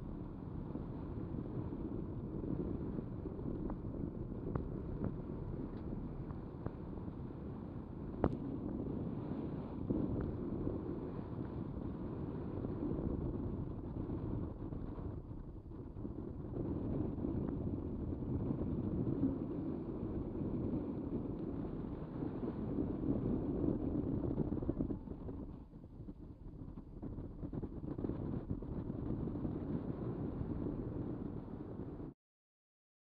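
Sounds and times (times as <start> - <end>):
boat at sea: 0.0 - 32.1
wind on microphone: 0.0 - 32.2.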